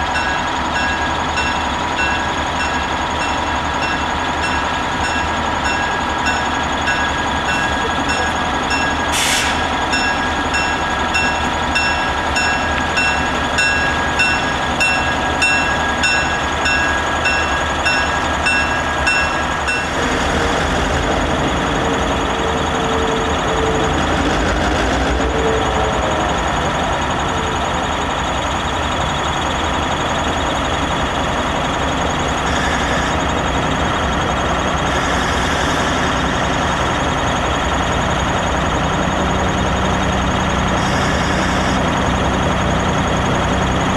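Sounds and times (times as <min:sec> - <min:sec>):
locomotive bell ringing: 0:00.0 - 0:24.4, 0:25.0 - 0:43.9
diesel engine running: 0:00.0 - 0:43.9.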